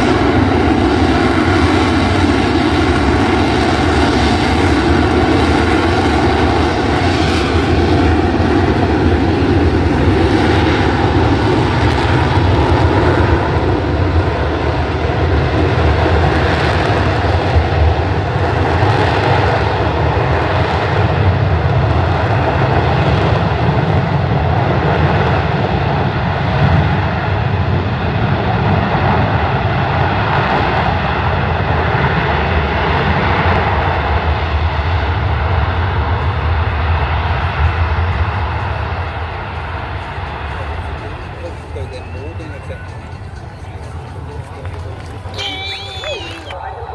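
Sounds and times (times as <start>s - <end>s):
loud jet engine roar: 0.0s - 46.9s.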